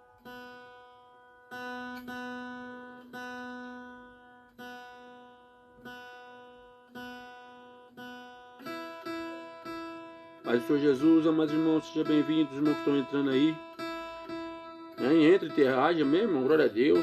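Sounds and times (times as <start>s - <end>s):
ten-string guitar strumming: 0.0s - 17.0s.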